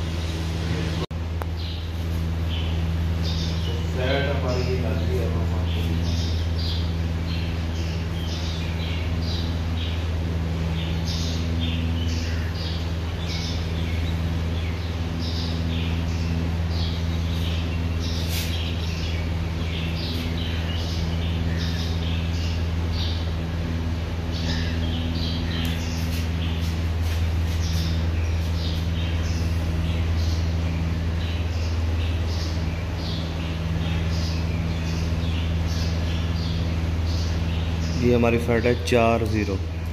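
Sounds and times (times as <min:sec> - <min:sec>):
low hum: 0:00.0 - 0:39.9
small birds chirping: 0:00.0 - 0:39.9.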